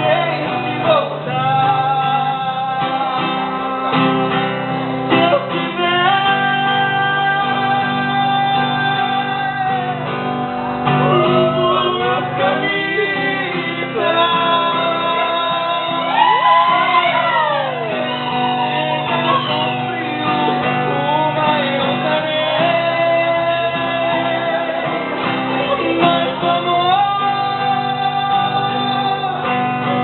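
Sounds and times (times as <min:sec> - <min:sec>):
guitar accompaniment: 0:00.0 - 0:30.0
person singing: 0:00.0 - 0:30.0.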